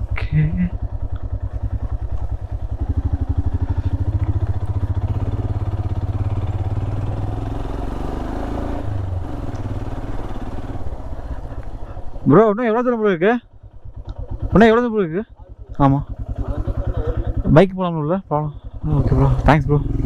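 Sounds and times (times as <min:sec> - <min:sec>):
motorcycle engine pulsing: 0:00.0 - 0:20.0.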